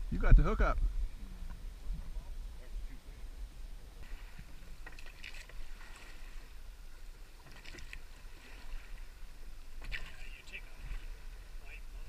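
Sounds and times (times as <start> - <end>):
wind rumble on microphone: 0.0 - 12.0
river water lapping and splashing: 1.3 - 12.0.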